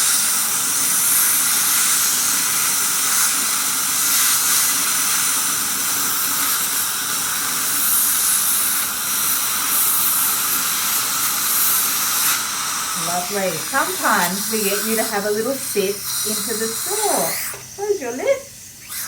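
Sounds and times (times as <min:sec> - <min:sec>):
dental air polisher hissing: 0:00.0 - 0:19.0.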